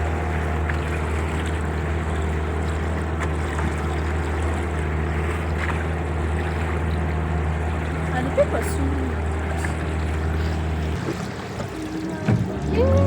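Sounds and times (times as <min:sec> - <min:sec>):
motorboat engine droning: 0:00.0 - 0:13.0
water noise: 0:00.0 - 0:13.0.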